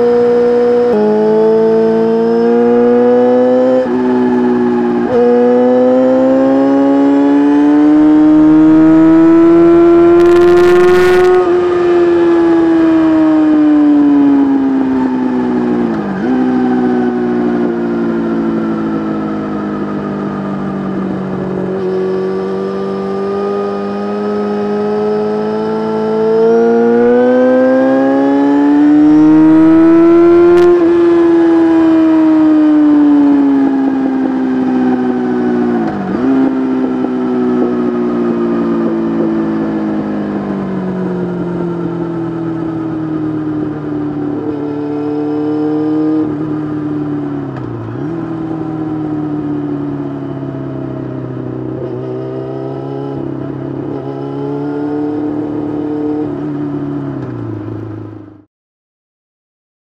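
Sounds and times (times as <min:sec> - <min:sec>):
motorcycle engine accelerating: 0:00.0 - 0:58.5.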